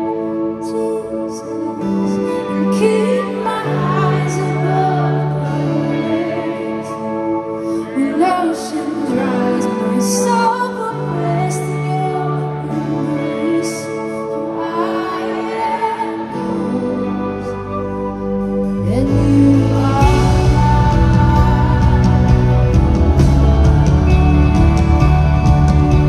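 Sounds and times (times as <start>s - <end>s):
woman singing: 0.0s - 25.4s
live band playing ballad: 0.0s - 26.0s.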